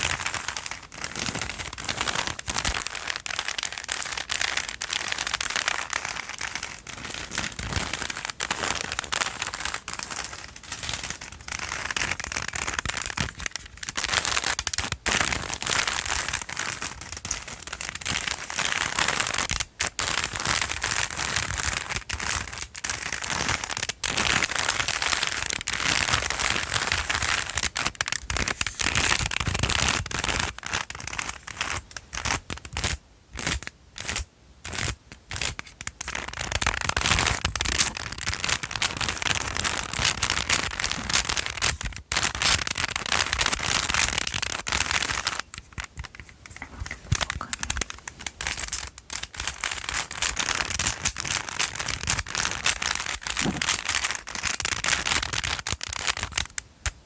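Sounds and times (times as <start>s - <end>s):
crinkly material scrunched: 0.0s - 31.8s, 34.8s - 56.6s.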